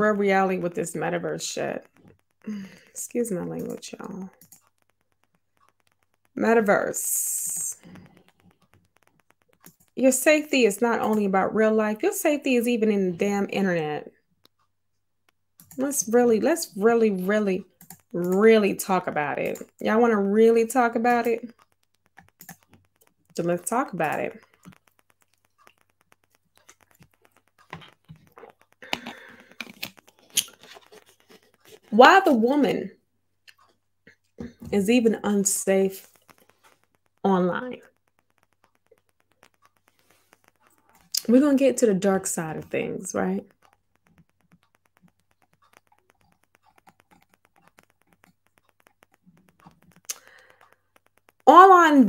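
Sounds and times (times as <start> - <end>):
keyboard typing clicks: 0.0 - 52.0.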